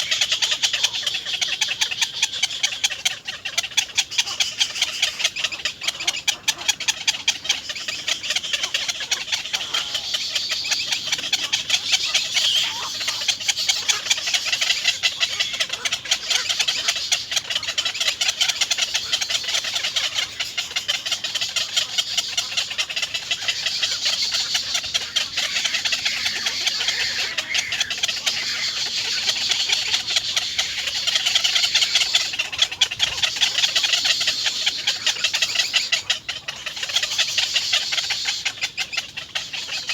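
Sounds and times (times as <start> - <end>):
high-pitched animal chirping: 0.0 - 39.9.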